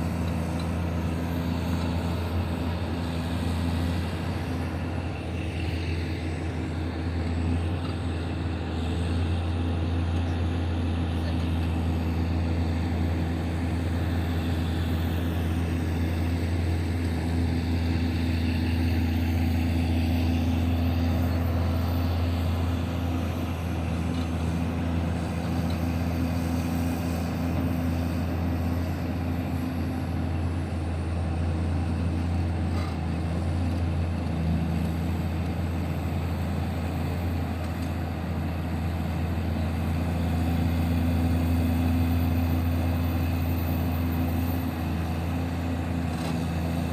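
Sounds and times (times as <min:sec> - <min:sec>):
heavy diesel engine droning: 0:00.0 - 0:46.9.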